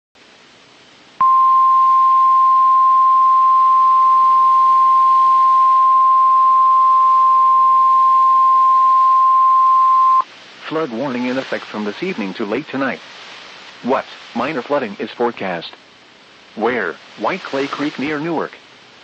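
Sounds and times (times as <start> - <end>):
faint radio hiss: 0.2 - 19.0.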